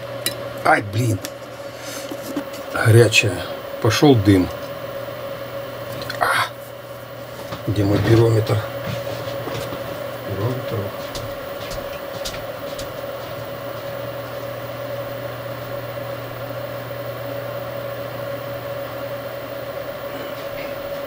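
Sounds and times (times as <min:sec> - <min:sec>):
power supply hum and whine: 0:00.0 - 0:21.0.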